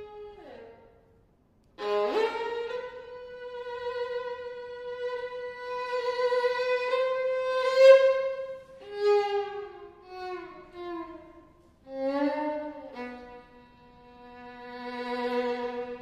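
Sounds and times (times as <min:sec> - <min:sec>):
violin playing slow passage: 0:00.0 - 0:01.0, 0:01.8 - 0:16.0.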